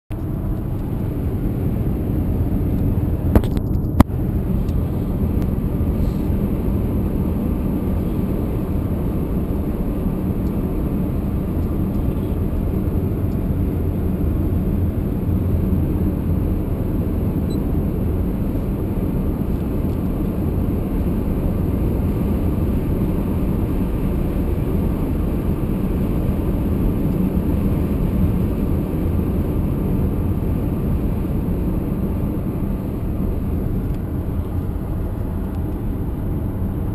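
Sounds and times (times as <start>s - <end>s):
road and engine noise in cabin: 0.1s - 36.9s.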